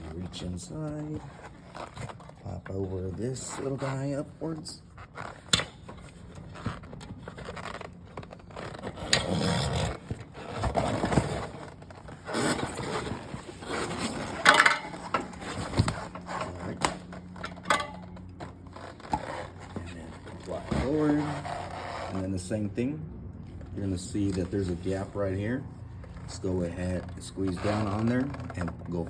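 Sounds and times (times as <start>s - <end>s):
rubber tire scraping metal rim: 0.0s - 22.6s, 23.7s - 29.0s.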